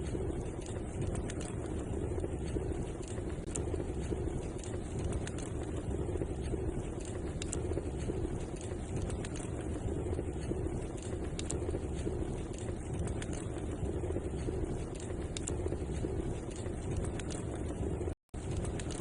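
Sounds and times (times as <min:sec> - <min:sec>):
fire burning with low rush: 0:00.0 - 0:19.0
fire crackles and pops: 0:00.0 - 0:19.0.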